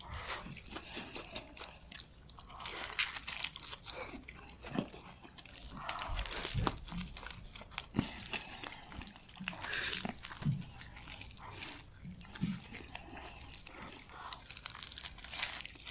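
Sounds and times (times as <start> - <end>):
crunchy chewing: 0.0 - 15.9.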